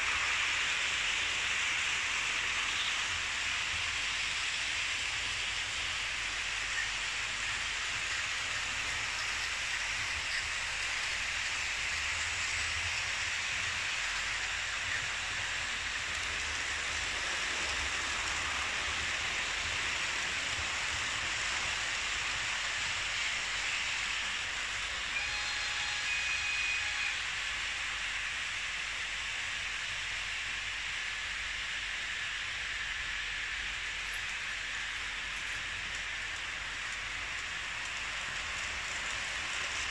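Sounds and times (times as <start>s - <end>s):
model train wheels rolling: 0.0s - 39.9s.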